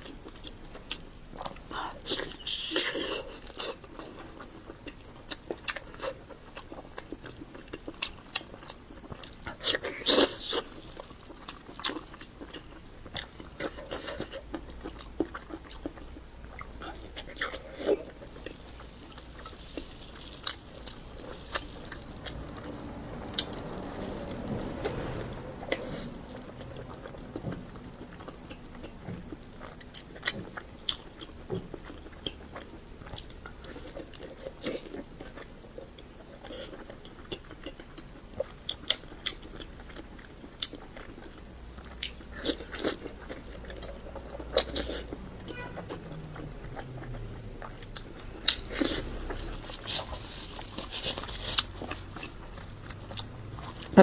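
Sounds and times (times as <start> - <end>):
crisp chewing crunches: 0.0 - 54.0.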